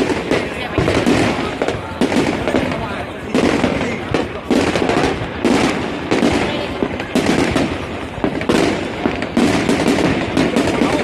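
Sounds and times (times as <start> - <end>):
fireworks bangs: 0.0 - 11.0
fireworks crackle and rumble: 0.0 - 11.0.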